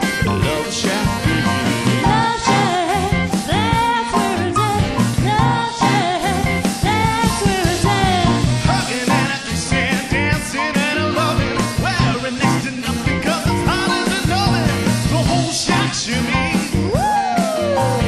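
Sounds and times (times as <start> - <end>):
band playing rock and roll: 0.0 - 18.0.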